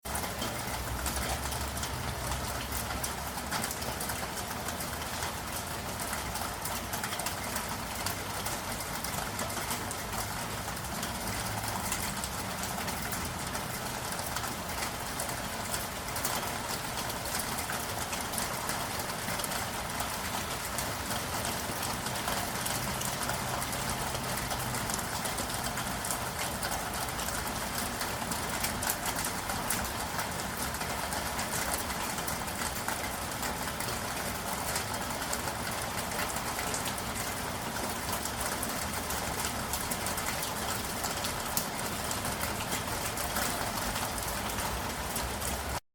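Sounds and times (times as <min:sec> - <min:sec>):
steady rain falling: 0:00.0 - 0:45.8.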